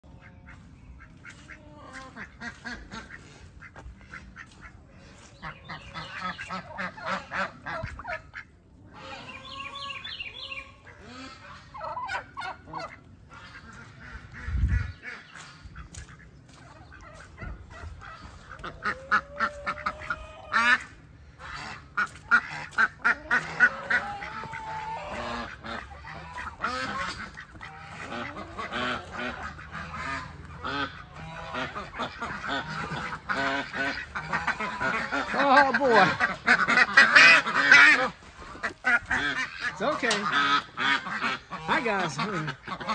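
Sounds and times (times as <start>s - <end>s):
ducks and geese calling: 0.0s - 42.9s.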